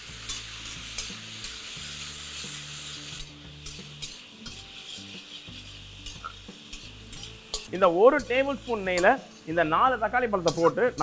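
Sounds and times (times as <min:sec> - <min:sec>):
tomatoes sizzling in ghee: 0:00.0 - 0:11.0
metal spatula scraping pan: 0:00.2 - 0:11.0.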